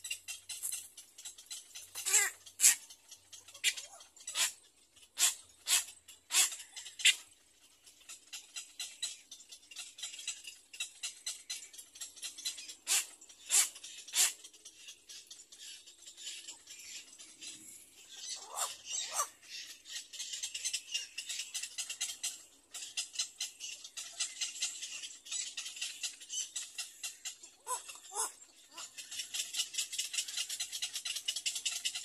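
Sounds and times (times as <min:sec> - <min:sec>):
chicks chittering calls: 0:00.0 - 0:32.0.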